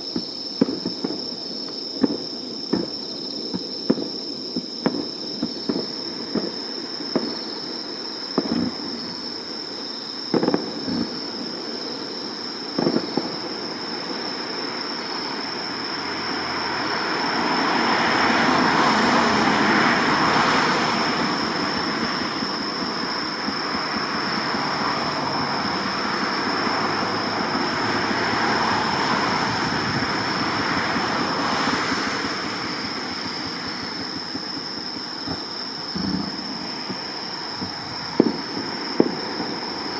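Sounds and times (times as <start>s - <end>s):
firework bangs: 0.0s - 39.9s
firework rushing hiss: 0.0s - 39.9s
insect trill: 0.0s - 39.9s.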